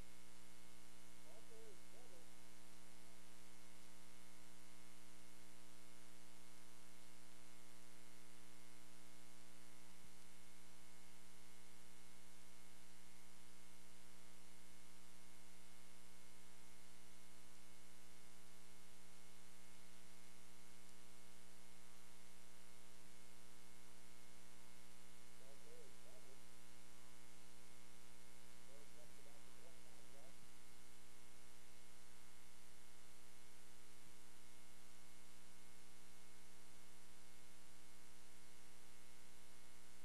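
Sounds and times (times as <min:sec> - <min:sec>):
constant hiss: 0:00.0 - 0:40.0
electrical hum and buzz: 0:00.0 - 0:40.0.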